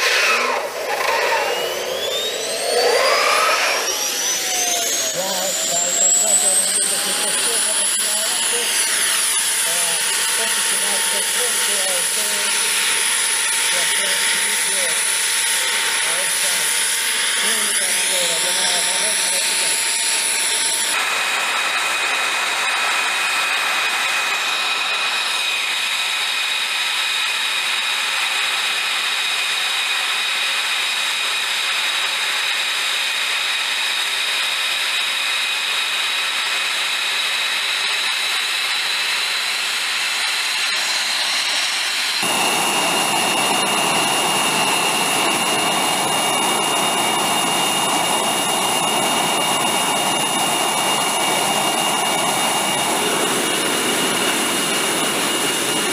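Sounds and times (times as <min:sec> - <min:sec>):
jet engine turbine whine: 0:00.0 - 0:55.9.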